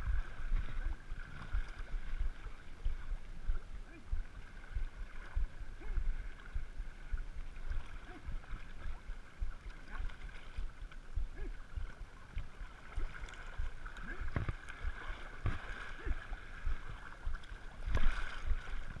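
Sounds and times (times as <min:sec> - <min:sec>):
water gurgles: 0:00.0 - 0:19.0
water lapping and sloshing: 0:00.0 - 0:19.0.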